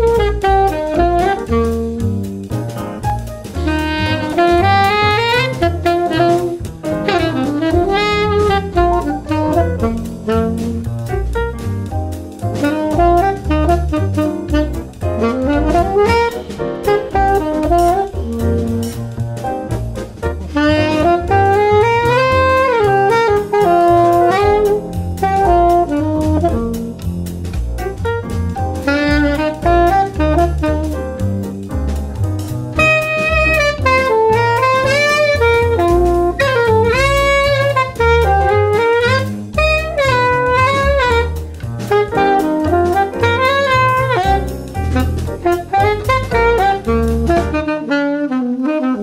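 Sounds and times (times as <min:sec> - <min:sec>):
bass: 0:00.0 - 0:49.0
drums: 0:00.0 - 0:49.0
saxophone playing jazz melody: 0:00.0 - 0:49.0.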